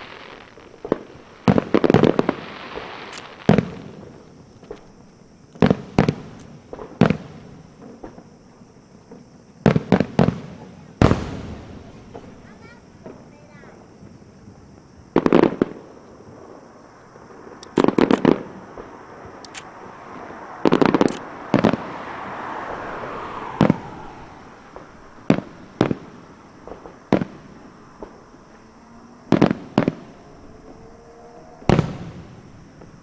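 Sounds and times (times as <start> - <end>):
crackling hiss of fireworks: 0.0 - 33.0
fireworks bursting with sharp bangs: 0.0 - 33.0.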